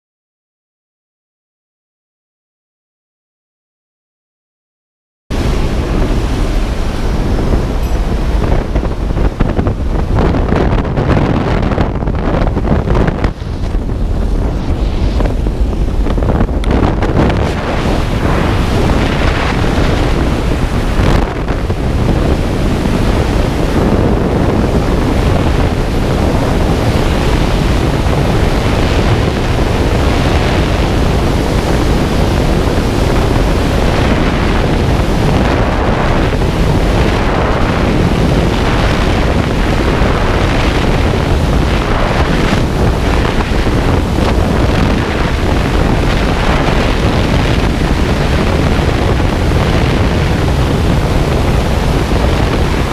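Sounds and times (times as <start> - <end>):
freefall air rushing: 5.3 - 52.9.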